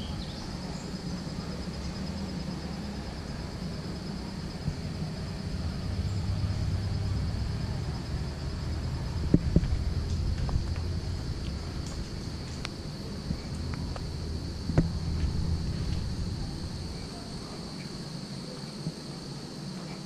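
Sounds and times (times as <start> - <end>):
low steady rumble: 0.0 - 19.6
high-pitched insect chorus: 0.0 - 20.0.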